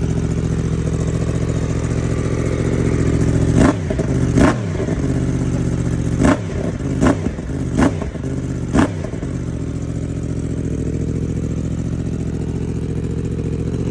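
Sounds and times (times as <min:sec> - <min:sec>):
motorcycle engine revving and idling: 0:00.0 - 0:13.9.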